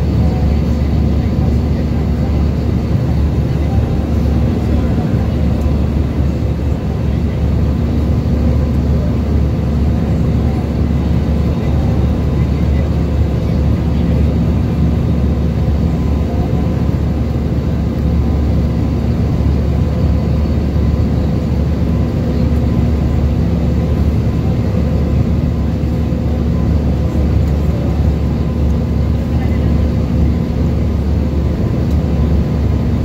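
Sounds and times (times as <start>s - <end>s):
jet engine and airflow noise: 0.0s - 33.0s.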